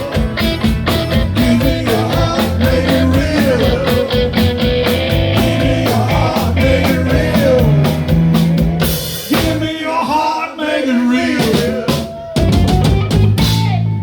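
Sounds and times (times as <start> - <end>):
drum kit: 0.0 - 10.0, 11.2 - 14.0.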